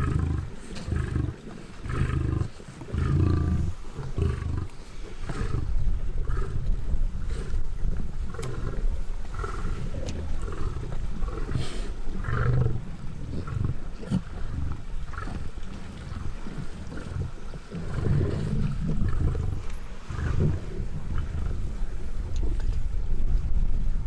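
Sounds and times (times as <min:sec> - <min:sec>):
lions growling low: 0:00.0 - 0:22.8.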